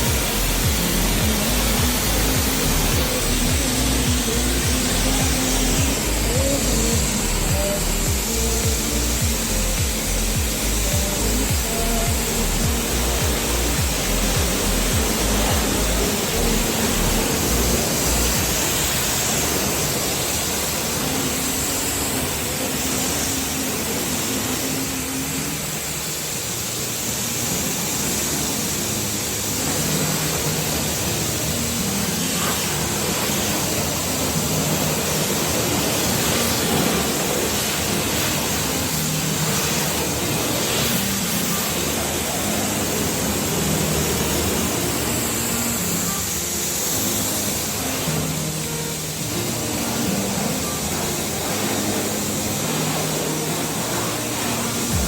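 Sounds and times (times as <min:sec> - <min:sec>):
pressure washer spraying water: 0:00.0 - 0:55.0.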